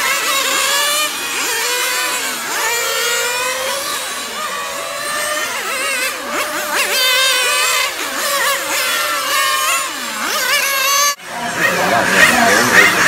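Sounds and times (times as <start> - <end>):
rc car engines revving high: 0.0 - 13.0.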